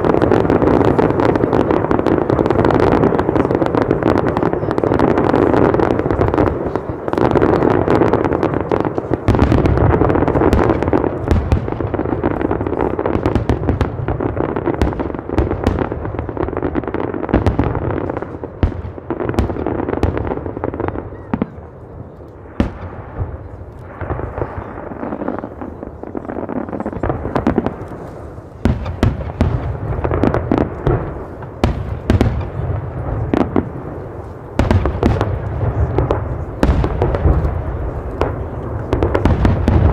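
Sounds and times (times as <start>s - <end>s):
fireworks booming: 0.0s - 39.9s
fireworks crackling pops: 0.0s - 39.9s.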